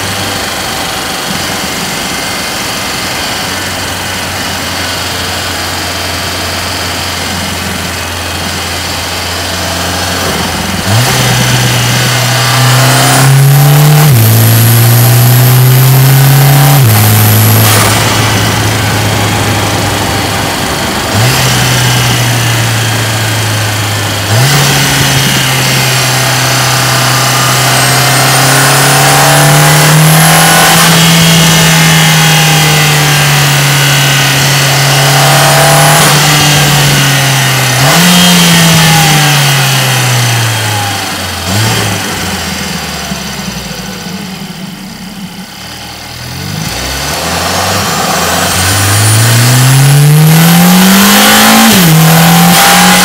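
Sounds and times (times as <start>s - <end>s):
car engine accelerating: 0.0s - 53.0s
high whine: 0.0s - 53.0s.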